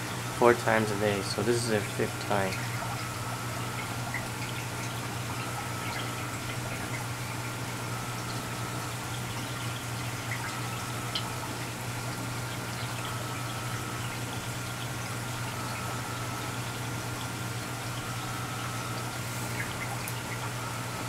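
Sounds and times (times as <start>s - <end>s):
low steady hum: 0.0s - 21.0s
water trickling and splashing: 0.2s - 21.0s
water dripping: 1.8s - 21.0s.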